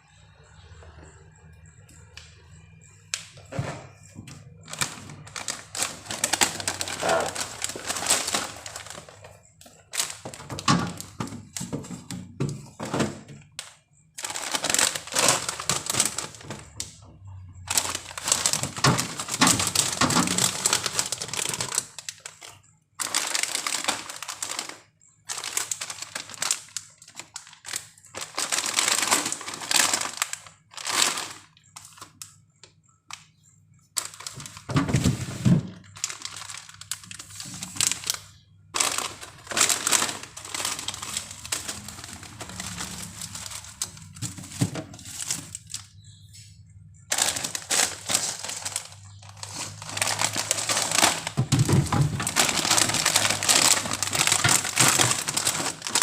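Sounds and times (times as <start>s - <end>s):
plastic packaging crinkling: 3.8s - 46.4s, 47.0s - 56.0s.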